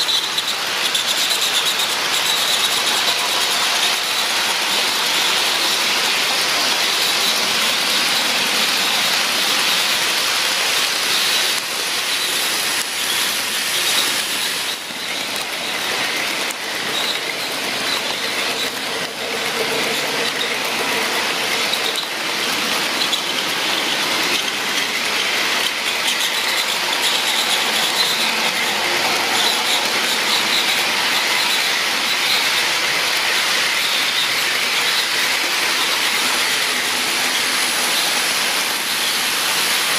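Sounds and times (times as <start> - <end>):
model locomotive motor hum: 0.0 - 39.9
model train wheels on rails: 0.0 - 39.9.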